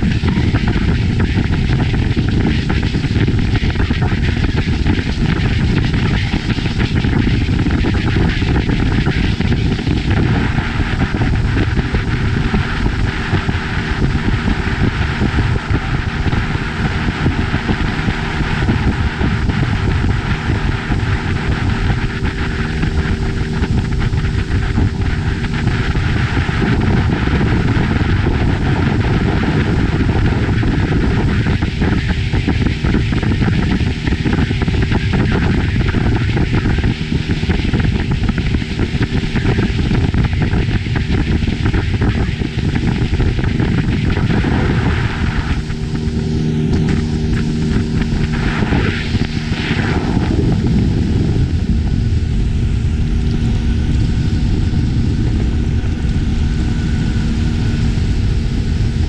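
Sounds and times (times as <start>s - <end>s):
faint boat engine hum: 0.0s - 59.0s
water rushing past hull: 0.0s - 59.0s
wind on microphone: 0.0s - 59.0s.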